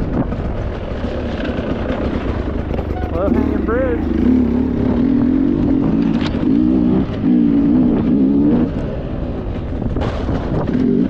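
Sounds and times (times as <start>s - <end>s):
dirt bike engine revving: 1.5s - 11.0s.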